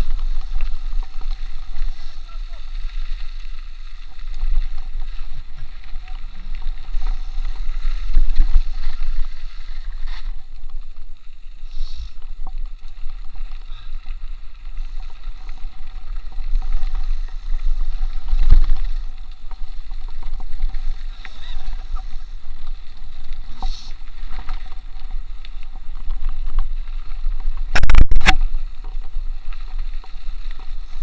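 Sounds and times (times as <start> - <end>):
mountain bike rattling on dirt trail: 0.0 - 31.0.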